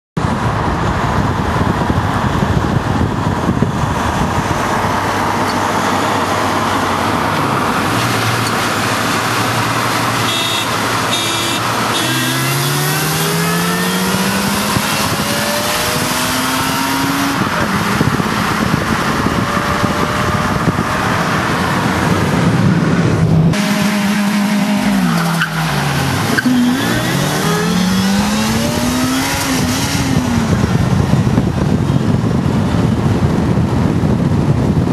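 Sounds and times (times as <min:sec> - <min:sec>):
car engine accelerating hard: 0:00.2 - 0:34.9
wind and road noise: 0:00.2 - 0:34.9.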